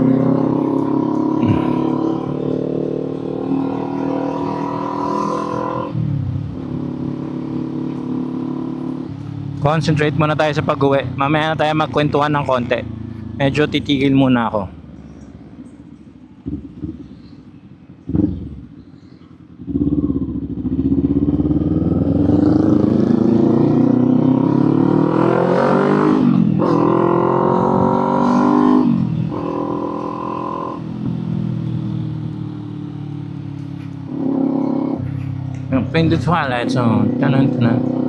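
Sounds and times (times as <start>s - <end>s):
motorcycle engine revving and accelerating: 0.0s - 14.6s, 16.4s - 17.1s, 18.0s - 18.7s, 19.6s - 38.0s.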